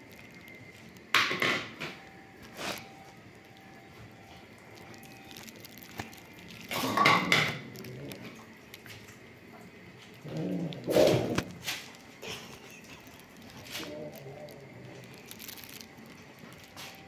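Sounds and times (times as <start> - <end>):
cats eating: 0.0 - 17.0.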